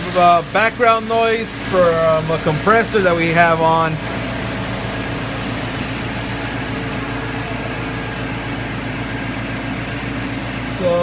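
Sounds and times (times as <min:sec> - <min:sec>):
air compressor running: 0:00.0 - 0:11.0
machine humming with held tones: 0:00.0 - 0:11.0.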